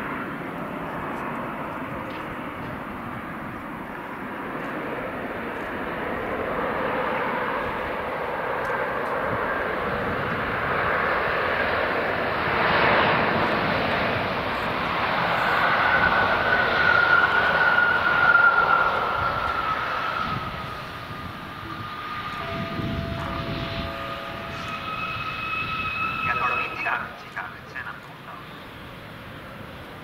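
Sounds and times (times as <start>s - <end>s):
high fan whine: 0.0s - 30.0s
jet engines roaring: 0.0s - 30.0s.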